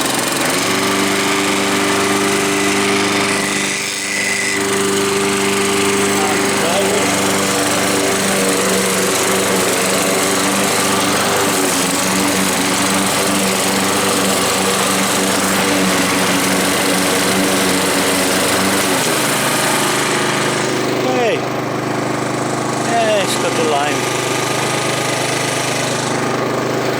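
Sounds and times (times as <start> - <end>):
lawnmower engine running: 0.0 - 26.9
mower blade cutting grass: 0.0 - 26.9.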